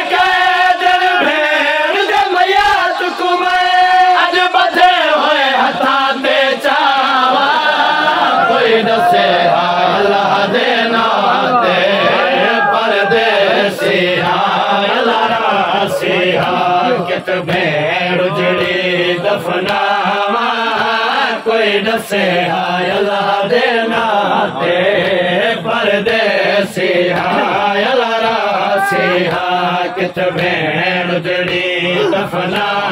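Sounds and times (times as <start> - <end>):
men chanting a lament: 0.0 - 32.9.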